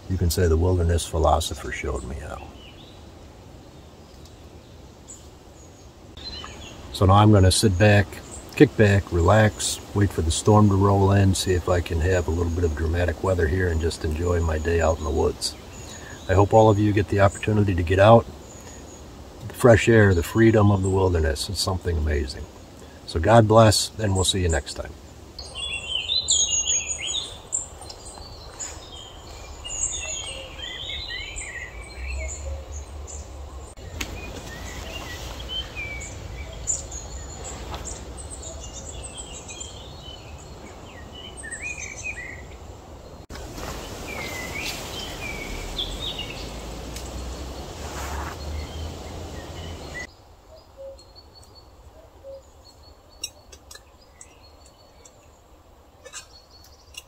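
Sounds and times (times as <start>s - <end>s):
small songbirds chirping: 0.0s - 57.0s.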